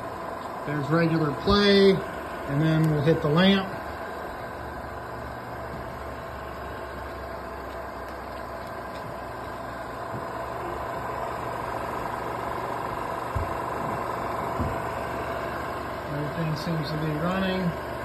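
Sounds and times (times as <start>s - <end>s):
film projector motor whirring: 0.0s - 18.0s.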